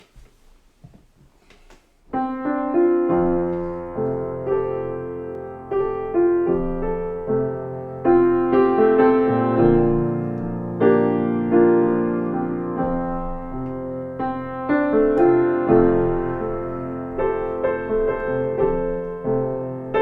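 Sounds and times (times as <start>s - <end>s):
slow piano chords: 2.1s - 20.0s.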